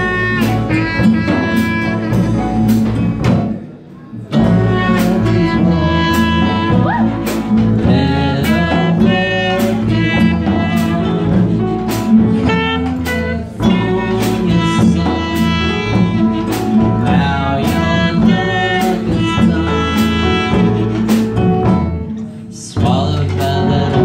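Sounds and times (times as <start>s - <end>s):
drum kit beat: 0.0s - 24.0s
electric bass: 0.0s - 24.0s.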